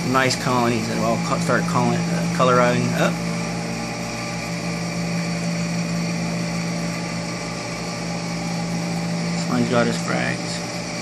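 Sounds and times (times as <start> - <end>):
aquarium water pumps humming: 0.0 - 11.0.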